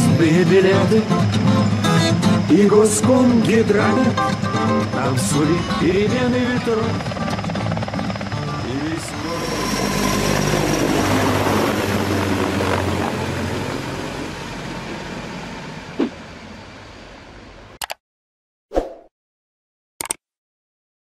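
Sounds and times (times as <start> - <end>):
helicopter passing overhead: 0.0 - 17.7.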